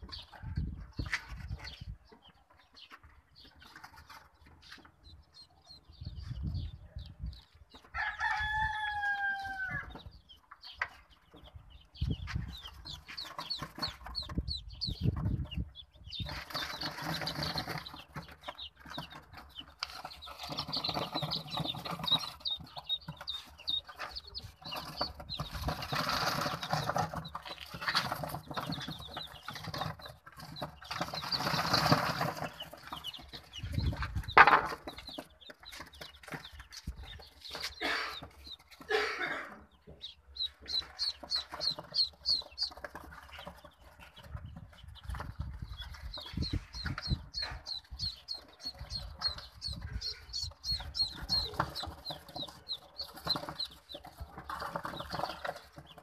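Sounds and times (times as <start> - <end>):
ducklings and chicks peeping: 0.0 - 56.0.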